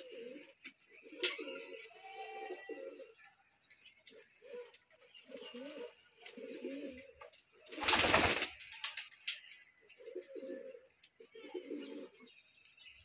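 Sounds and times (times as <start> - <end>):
pigeons cooing: 0.0 - 8.5, 9.9 - 12.4.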